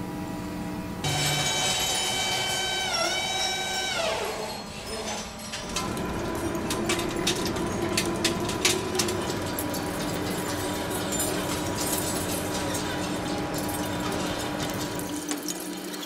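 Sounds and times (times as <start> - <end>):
machine hum with held tone: 0.0 - 15.2
lathe whine: 1.0 - 15.0.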